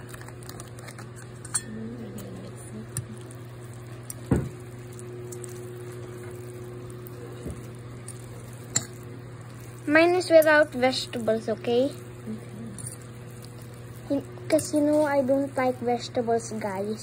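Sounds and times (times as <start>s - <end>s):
fork mixing wet noodles: 0.0s - 17.0s
steady low hum: 0.0s - 17.0s.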